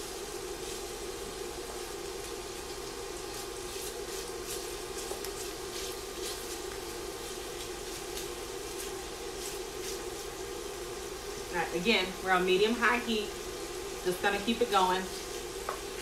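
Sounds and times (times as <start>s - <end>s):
bacon sizzling and crackling: 0.0s - 16.0s
steady hum: 0.0s - 16.0s
wooden spoon stirring in pot: 0.0s - 16.0s.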